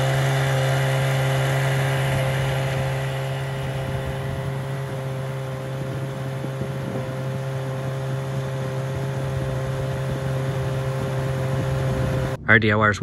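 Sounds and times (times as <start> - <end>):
outboard motor running at speed: 0.0 - 12.4.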